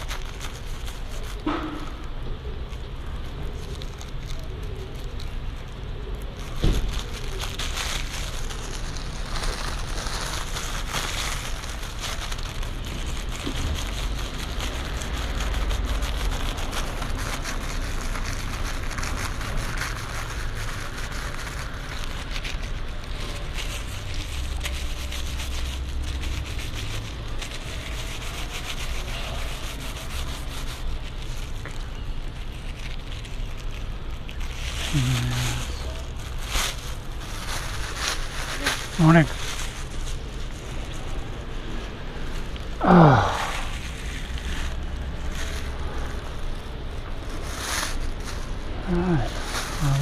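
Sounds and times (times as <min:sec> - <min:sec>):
close rubbing and scuffing: 0:00.0 - 0:50.0
low street rumble: 0:00.0 - 0:50.0
traffic rushing: 0:01.4 - 0:30.4, 0:33.9 - 0:50.0.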